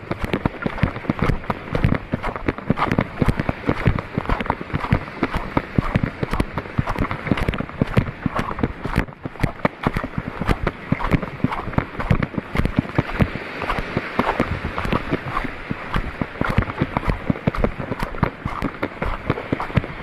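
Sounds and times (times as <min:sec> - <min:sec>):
footsteps crunching and splashing: 0:00.0 - 0:20.0.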